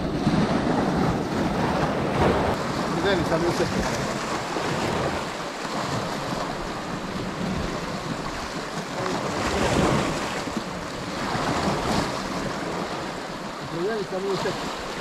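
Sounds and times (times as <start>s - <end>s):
waves breaking on rocks: 0.0s - 15.0s
wind on microphone: 0.0s - 15.0s.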